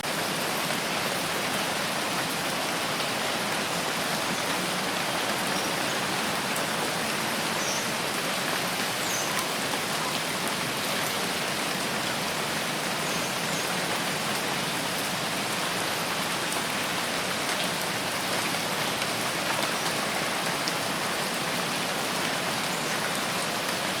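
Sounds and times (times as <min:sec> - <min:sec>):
rain drops ticking: 0:00.0 - 0:24.0
steady rain hiss: 0:00.0 - 0:24.0.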